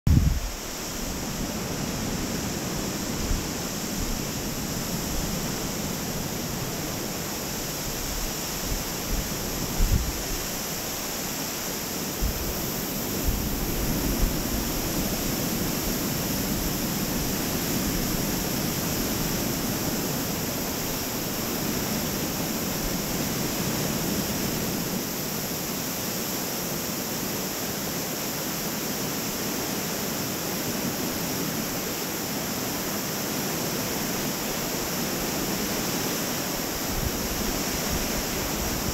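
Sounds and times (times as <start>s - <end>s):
river rushing over rocks: 0.1s - 38.9s.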